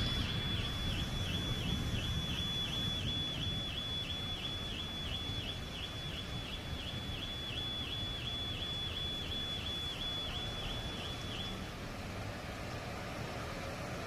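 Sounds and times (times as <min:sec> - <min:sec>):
storm rumble: 0:00.0 - 0:11.4.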